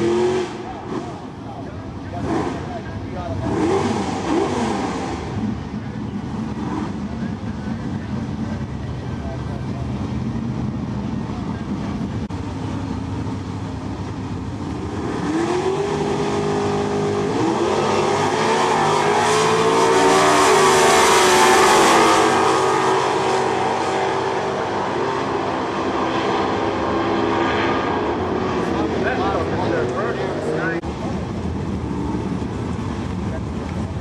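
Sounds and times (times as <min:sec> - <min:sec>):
drag car engines at full throttle: 0:00.0 - 0:34.0.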